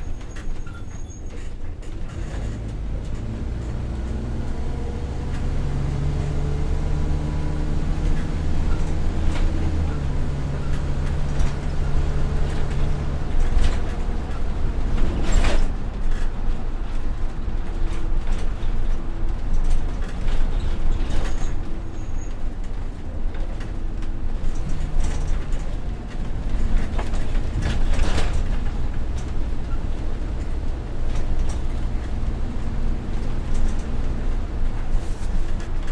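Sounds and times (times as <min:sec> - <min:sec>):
bus engine humming: 0:00.0 - 0:35.9
road noise: 0:00.0 - 0:35.9.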